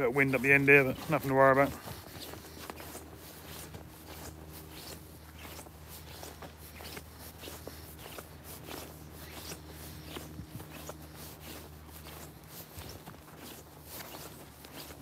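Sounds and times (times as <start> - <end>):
footsteps walking: 0.0 - 15.0
steady low hum: 0.0 - 15.0.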